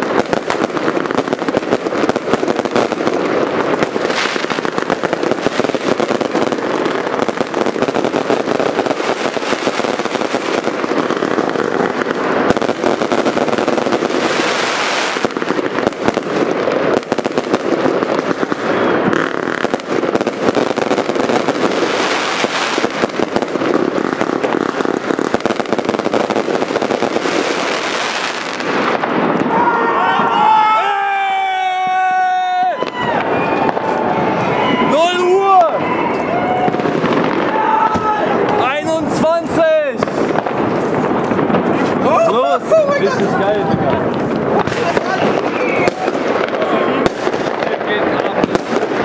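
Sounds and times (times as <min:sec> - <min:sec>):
fireworks bangs: 0:00.0 - 0:49.0
fireworks crackling and popping: 0:00.0 - 0:49.0.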